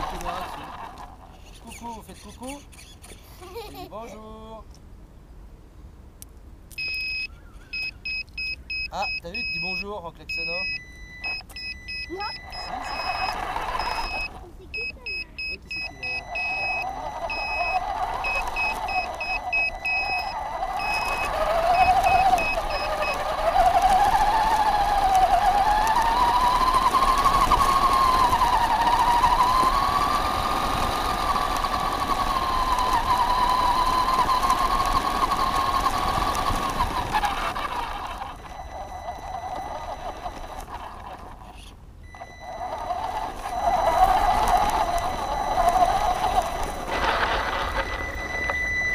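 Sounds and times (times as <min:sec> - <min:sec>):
toy car electric motor whining: 0:00.0 - 0:03.9, 0:10.4 - 0:48.9
wheels on gravel: 0:00.0 - 0:04.6, 0:06.8 - 0:48.9
toy car horn beeps: 0:06.8 - 0:41.4, 0:42.1 - 0:48.9.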